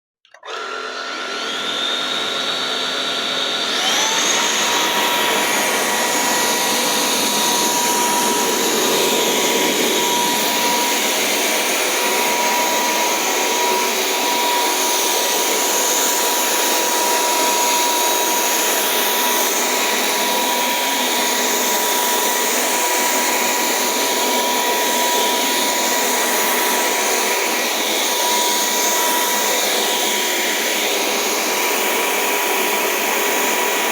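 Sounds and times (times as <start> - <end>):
vacuum cleaner motor whining: 0.3 - 33.9.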